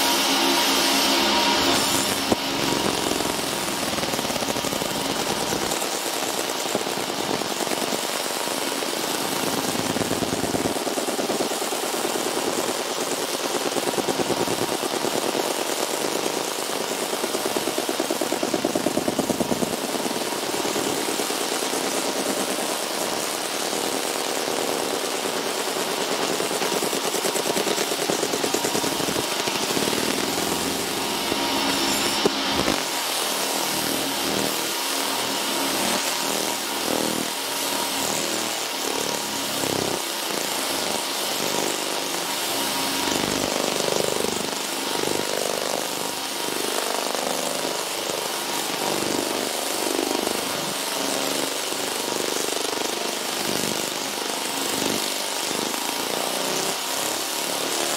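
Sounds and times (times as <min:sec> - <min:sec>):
laser buzzing crackle: 0:00.0 - 0:57.9.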